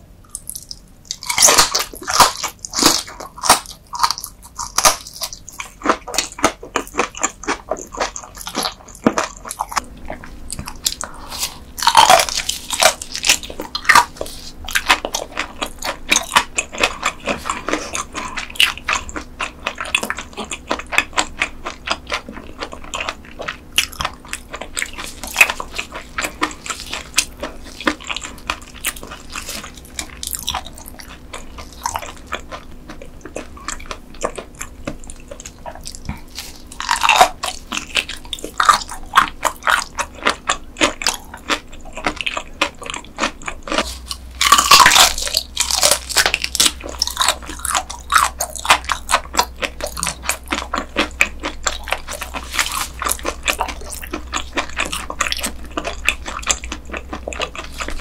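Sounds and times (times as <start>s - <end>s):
crisp crunchy chewing: 0.2s - 58.0s.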